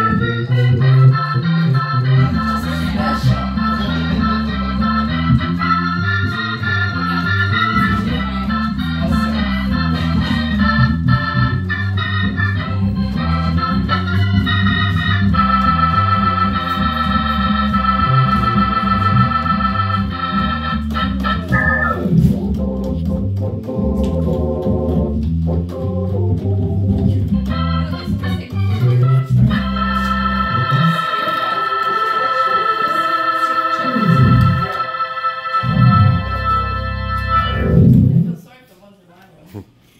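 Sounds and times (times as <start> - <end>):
low bass line: 0.0 - 31.0, 34.0 - 34.8, 35.6 - 38.3
organ playing blues: 0.0 - 38.3.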